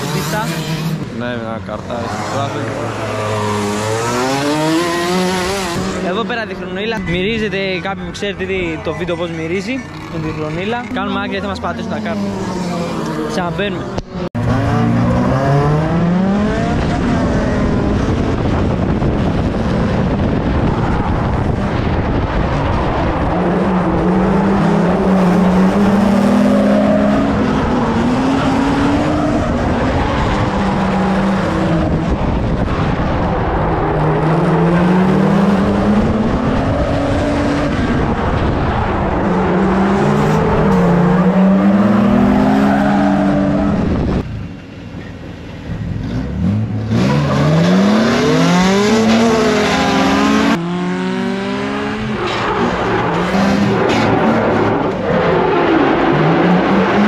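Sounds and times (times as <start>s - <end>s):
car engine revving through gears: 0.0s - 6.3s, 9.9s - 44.2s, 46.0s - 57.0s
road and tyre noise: 0.0s - 57.0s.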